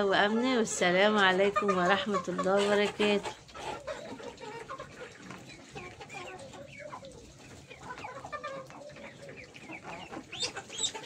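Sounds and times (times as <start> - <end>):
young chickens clucking: 0.0 - 11.0.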